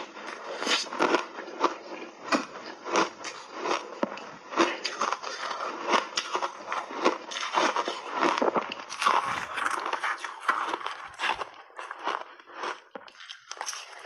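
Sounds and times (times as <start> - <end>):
ice crunched between teeth: 0.0 - 14.0.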